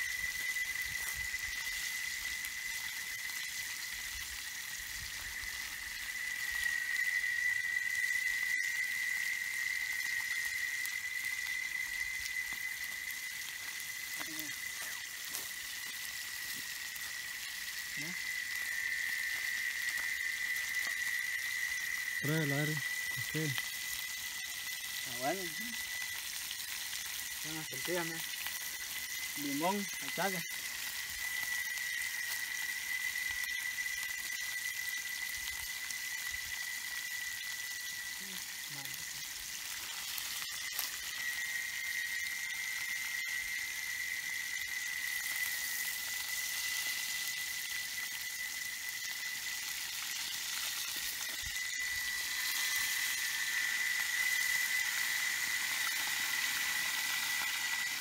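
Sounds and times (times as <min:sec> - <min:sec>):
fish sizzling in frying pan: 0:00.0 - 0:58.0
steady high-pitched whine: 0:00.0 - 0:58.0
thin high tone: 0:00.0 - 0:58.0.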